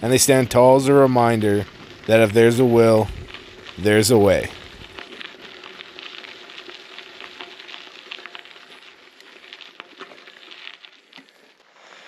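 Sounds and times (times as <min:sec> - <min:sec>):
bicycle tyres rolling on gravel: 0:00.0 - 0:12.0.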